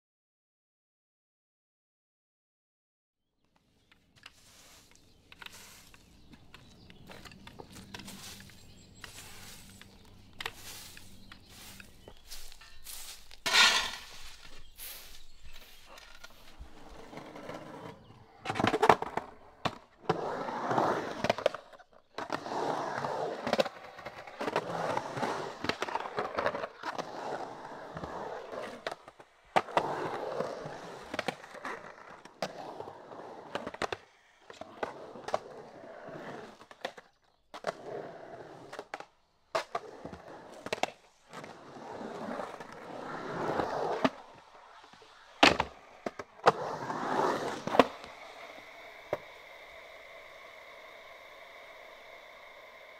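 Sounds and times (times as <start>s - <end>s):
skateboard wheels rolling: 3.6s - 52.9s.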